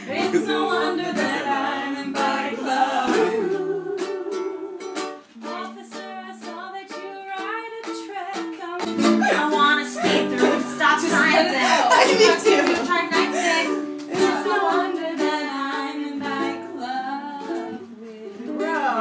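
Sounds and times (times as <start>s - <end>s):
ukulele strumming and picking: 0.0s - 19.0s.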